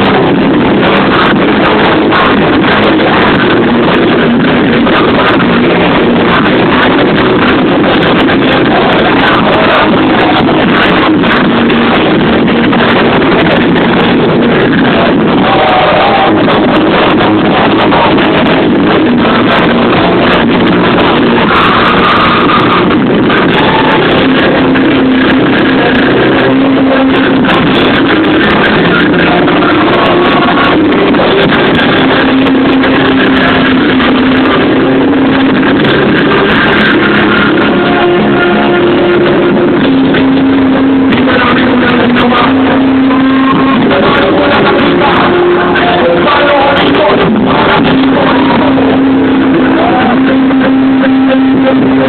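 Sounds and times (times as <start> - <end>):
loud amplified live music: 0.0 - 52.0.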